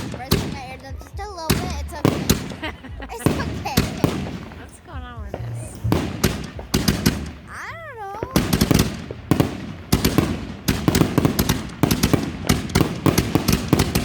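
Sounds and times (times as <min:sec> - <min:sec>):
fireworks crackling bangs: 0:00.0 - 0:14.0.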